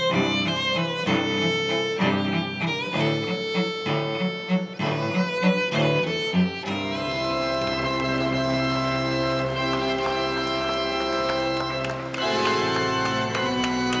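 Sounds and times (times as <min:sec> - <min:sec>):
violin and strings music: 0:00.0 - 0:14.0.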